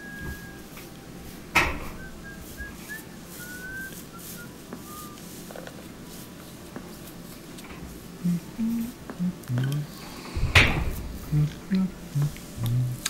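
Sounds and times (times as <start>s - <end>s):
faint whistle-like tones: 0.0s - 6.6s, 7.7s - 13.0s.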